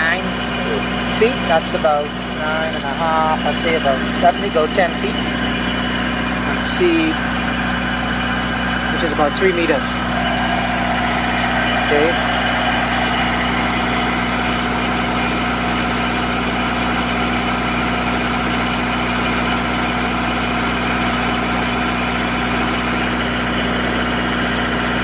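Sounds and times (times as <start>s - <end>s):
diesel generator running: 0.0s - 25.0s.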